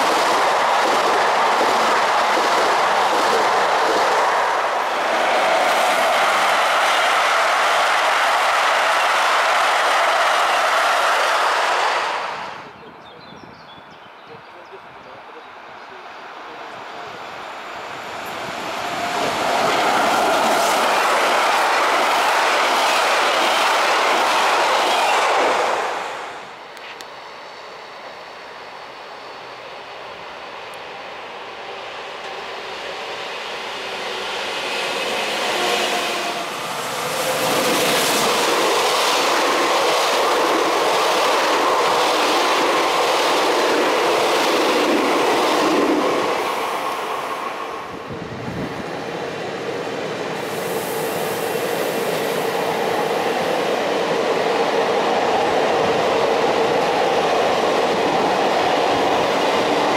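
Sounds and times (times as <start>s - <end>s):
train passing close by: 0.0s - 59.9s.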